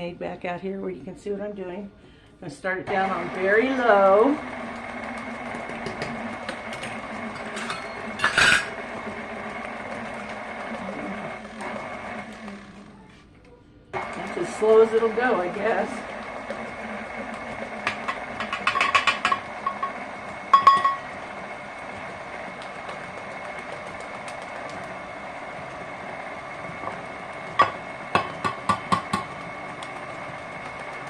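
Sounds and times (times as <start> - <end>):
stand mixer motor humming: 2.9 - 13.0, 14.0 - 31.0.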